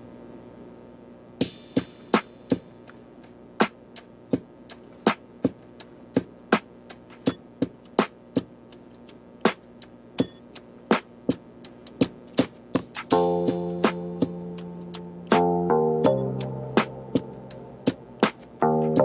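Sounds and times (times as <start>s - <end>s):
faint steady backing music: 0.4s - 19.0s
clicky percussion beat: 1.4s - 19.0s.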